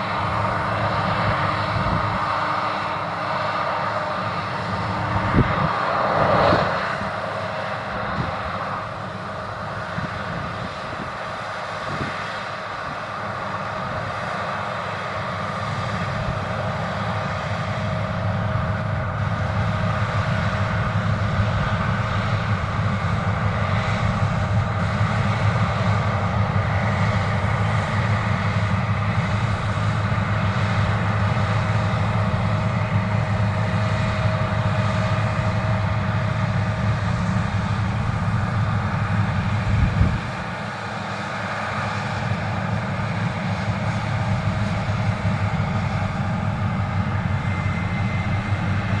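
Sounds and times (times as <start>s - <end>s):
combine harvester engine drone: 0.0s - 49.0s
faint steady whine: 0.0s - 49.0s.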